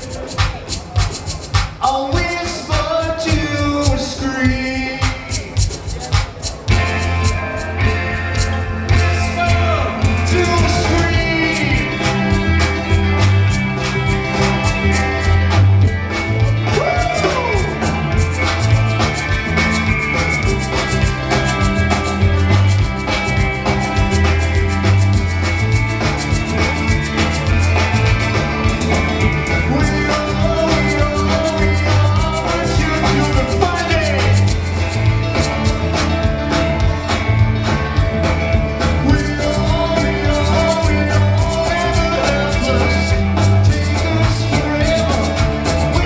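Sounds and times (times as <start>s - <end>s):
live rock band playing: 0.0s - 46.0s.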